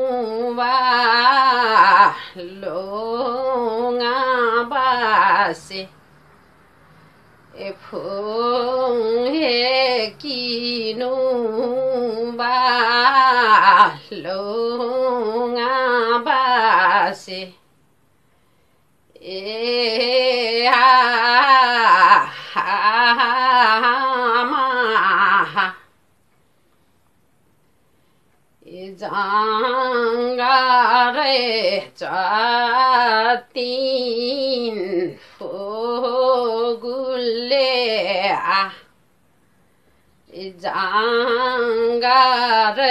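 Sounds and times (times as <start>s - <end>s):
woman singing unaccompanied: 0.0s - 6.0s, 7.5s - 17.7s, 19.1s - 26.0s, 28.6s - 39.0s, 40.2s - 42.9s.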